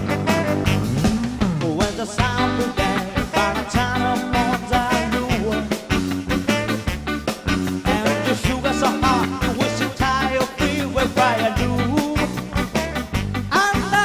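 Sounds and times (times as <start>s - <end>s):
rock band playing ska: 0.0s - 14.0s.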